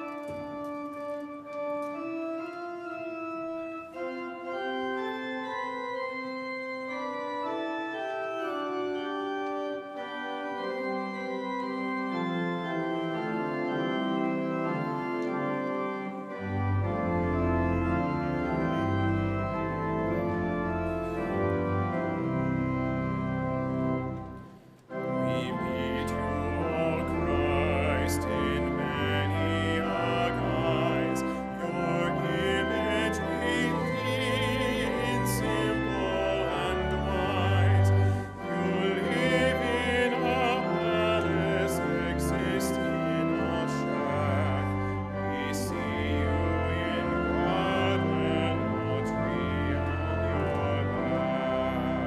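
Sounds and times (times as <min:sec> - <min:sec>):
slow instrumental hymn chords: 0:00.0 - 0:52.0.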